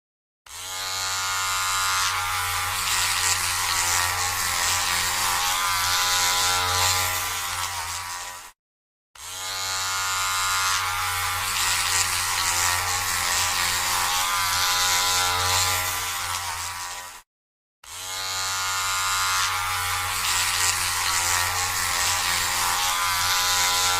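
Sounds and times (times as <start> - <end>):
electric hair clipper buzzing: 0.5 - 8.6, 9.2 - 23.9.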